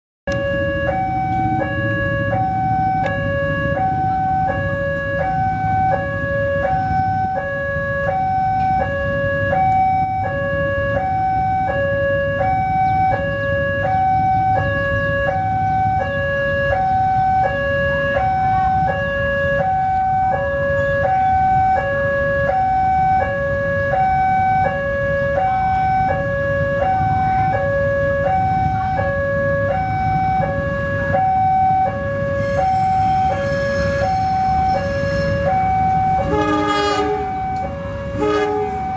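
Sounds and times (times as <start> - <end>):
two-tone level crossing alarm: 0.3 - 38.9.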